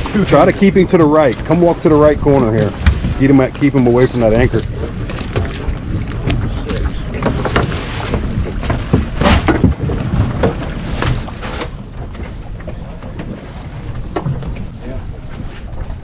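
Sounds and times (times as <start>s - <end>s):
water around boat: 0.0s - 16.0s
wind rumble: 0.0s - 16.0s.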